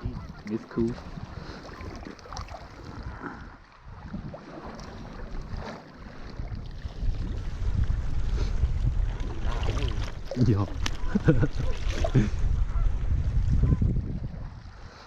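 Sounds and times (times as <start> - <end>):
boat and water noise: 0.0 - 15.0
wind rumbling on microphone: 0.0 - 15.0.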